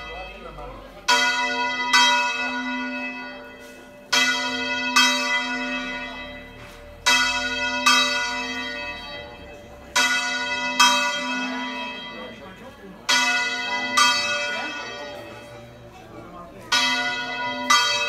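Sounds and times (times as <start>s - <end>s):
church bell ringing: 0.0s - 18.0s.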